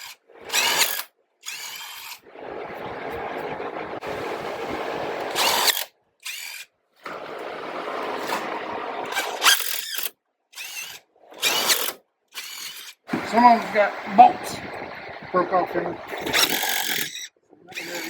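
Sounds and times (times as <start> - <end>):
power drill motor whine: 0.0 - 18.0.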